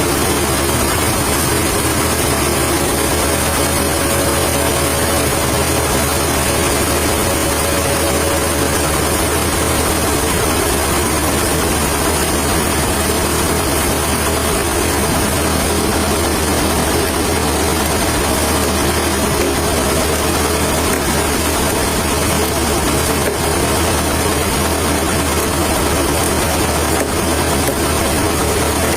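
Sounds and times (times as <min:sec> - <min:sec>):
machine engine running: 0:00.0 - 0:28.9.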